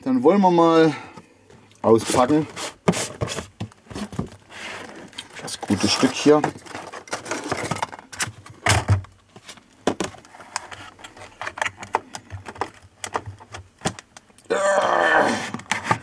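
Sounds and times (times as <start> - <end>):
plastic packaging clicks and scrapes: 1.8 - 14.4, 15.4 - 16.0.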